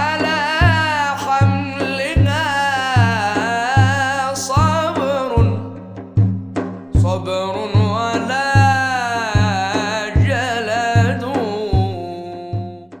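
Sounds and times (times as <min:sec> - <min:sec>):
young male voice chanting: 0:00.0 - 0:05.8, 0:07.0 - 0:13.0
low drum beats: 0:00.0 - 0:13.0.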